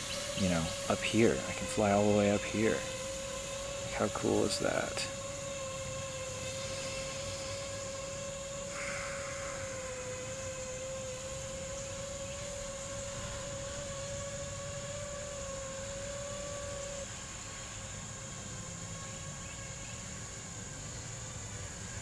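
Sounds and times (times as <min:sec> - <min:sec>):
drone motors whining: 0:00.0 - 0:20.1
faint hiss: 0:00.0 - 0:22.0.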